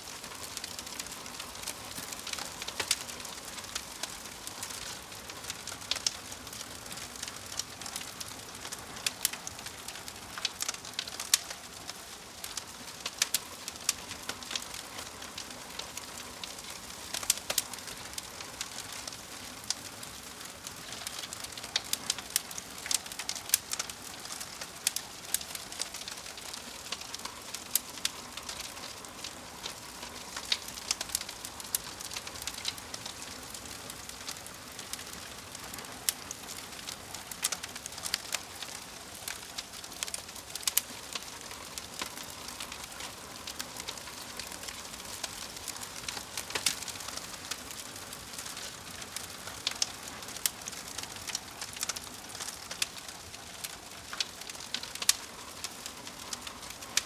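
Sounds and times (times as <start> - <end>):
wood fire crackling in fireplace: 0.0 - 57.0.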